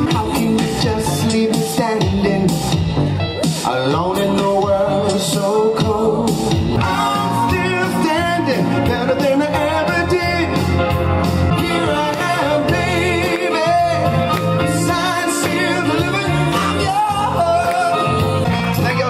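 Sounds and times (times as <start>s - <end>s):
instrumental accompaniment: 0.0s - 19.0s
man singing with vibrato: 0.0s - 19.0s.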